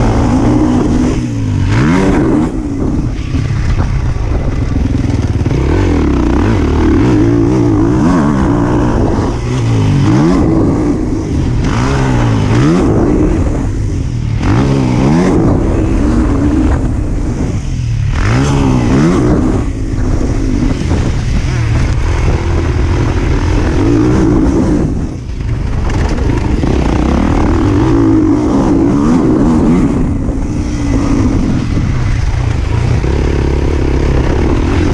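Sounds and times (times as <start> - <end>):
motors revving hard: 0.0 - 3.9, 4.5 - 34.9.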